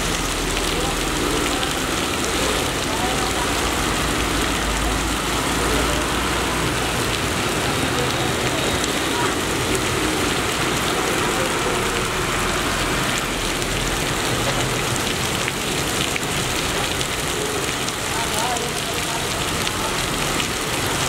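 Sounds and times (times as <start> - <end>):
heavy rain on street: 0.0 - 21.0
slow traffic on wet road: 0.0 - 21.0.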